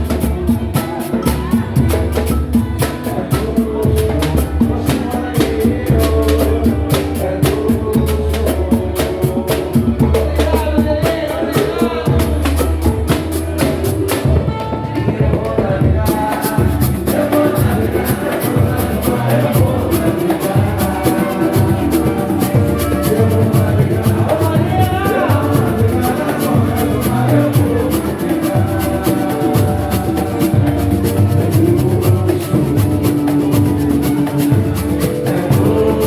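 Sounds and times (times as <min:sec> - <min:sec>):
deep bass drum: 0:00.0 - 0:36.0
fast high percussion hits: 0:00.0 - 0:36.0
samba percussion music: 0:00.0 - 0:36.0.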